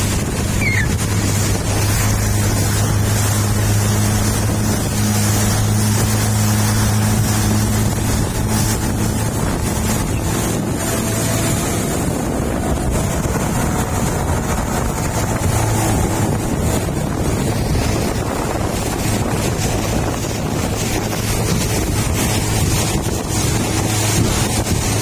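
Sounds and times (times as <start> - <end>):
small engine running: 0.0 - 25.0
wind buffeting microphone: 0.0 - 25.0.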